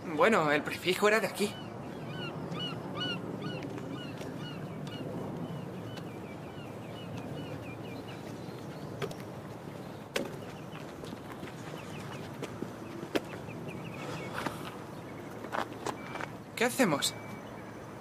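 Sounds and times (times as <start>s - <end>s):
birds calling: 0.0s - 18.0s
outdoor background noise: 0.0s - 18.0s.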